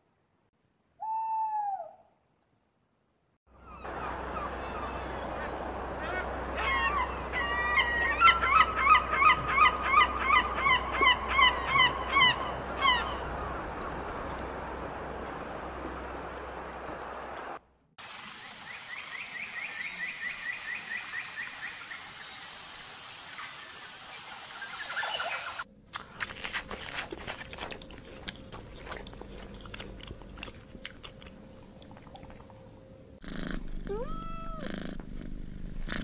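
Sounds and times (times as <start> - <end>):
outdoor background noise: 0.0 - 36.0.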